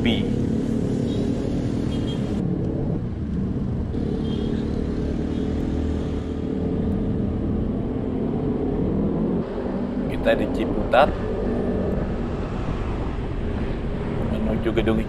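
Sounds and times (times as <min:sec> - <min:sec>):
scooter engine drone: 0:00.0 - 0:15.0
wind and road noise: 0:00.0 - 0:15.0.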